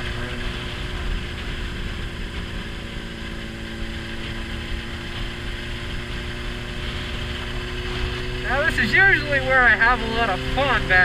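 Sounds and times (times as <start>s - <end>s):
motorcycle engine cruising: 0.0s - 11.0s
wind and road rumble: 0.0s - 11.0s.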